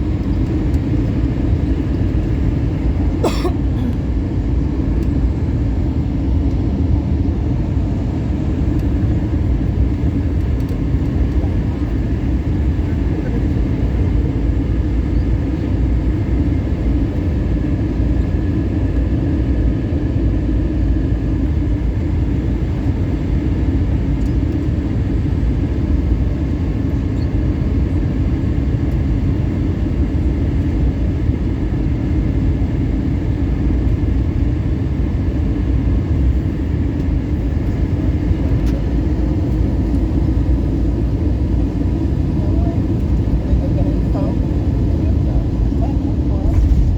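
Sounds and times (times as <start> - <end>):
airliner engine rumble: 0.0 - 46.9.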